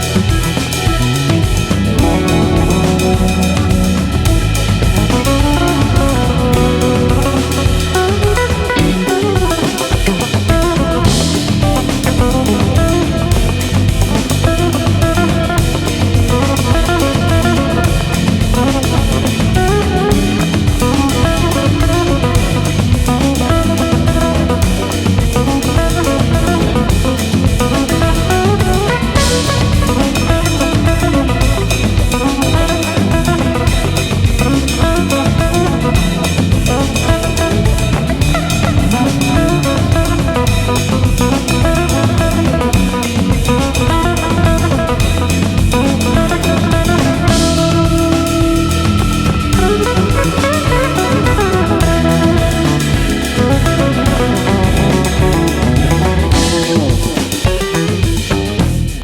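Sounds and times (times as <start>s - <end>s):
music with drums and guitar: 0.0s - 59.0s.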